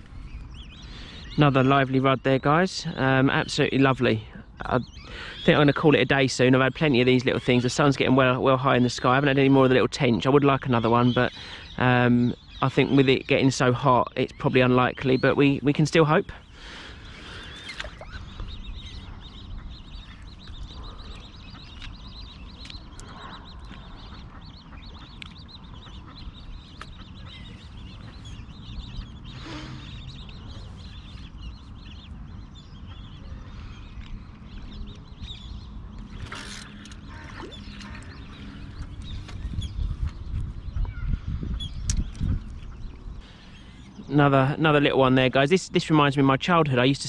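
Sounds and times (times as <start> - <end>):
ducks quacking: 0.0 - 33.8, 36.1 - 41.7.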